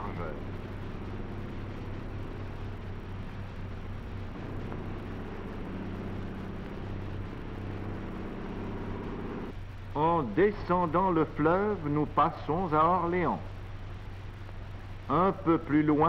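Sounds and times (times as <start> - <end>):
old film soundtrack hiss: 0.0 - 16.0
propeller aeroplane engine drone: 0.0 - 16.0.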